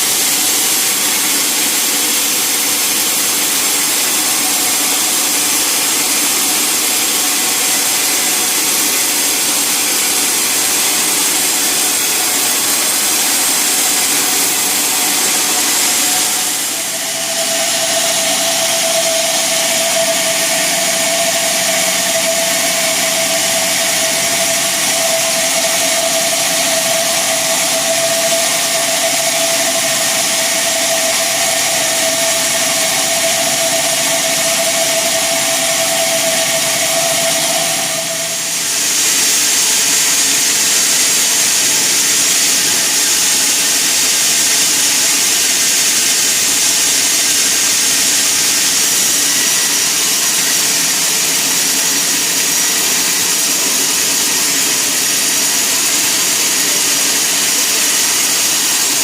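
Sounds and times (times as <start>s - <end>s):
sawmill saw whining: 0.0s - 59.0s.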